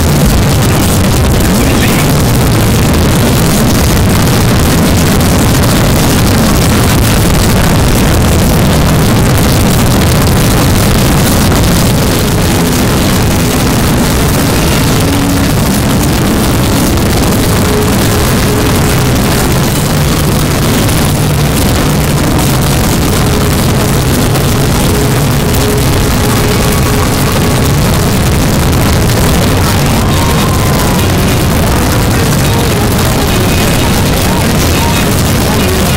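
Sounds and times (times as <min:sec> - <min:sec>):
distorted wall of noise: 0:00.0 - 0:35.9.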